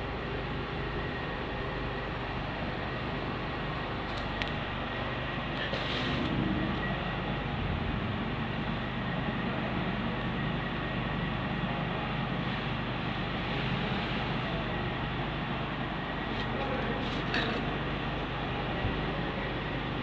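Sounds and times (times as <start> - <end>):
background rumble and hiss: 0.0 - 20.0.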